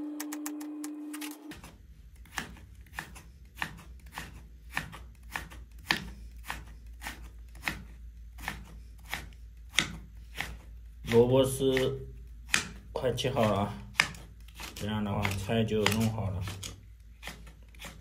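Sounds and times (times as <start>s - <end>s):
knife striking chopping board: 2.3s - 18.0s.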